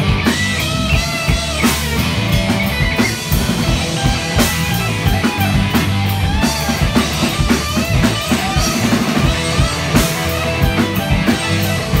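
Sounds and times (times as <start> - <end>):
bending guitar notes: 0.0 - 12.0
live rock band playing: 0.0 - 12.0.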